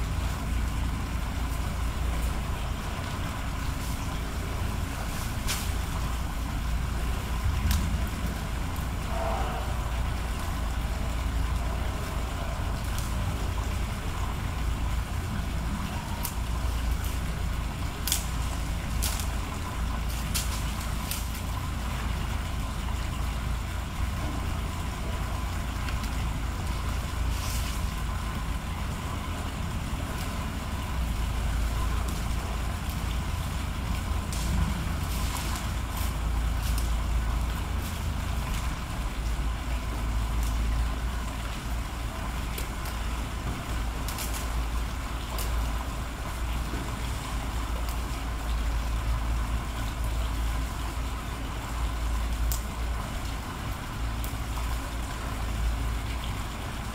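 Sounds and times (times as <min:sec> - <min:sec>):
low outdoor rumble: 0:00.0 - 0:56.9.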